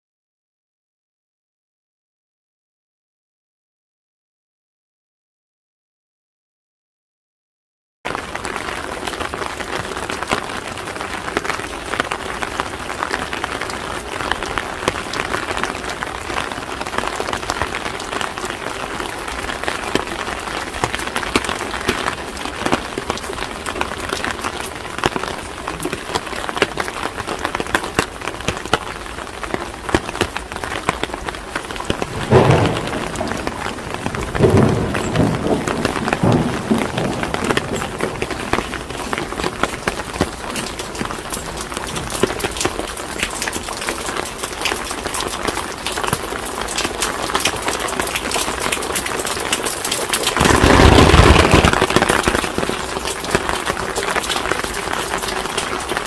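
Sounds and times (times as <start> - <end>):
rain pattering on street: 8.1 - 56.0.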